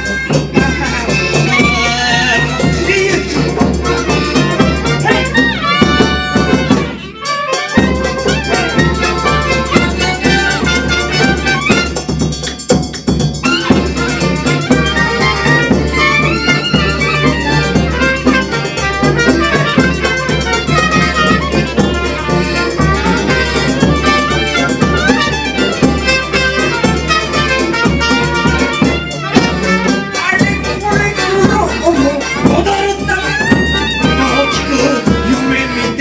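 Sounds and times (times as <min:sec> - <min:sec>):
drums and percussion: 0:00.0 - 0:36.0
wind instruments: 0:00.0 - 0:36.0.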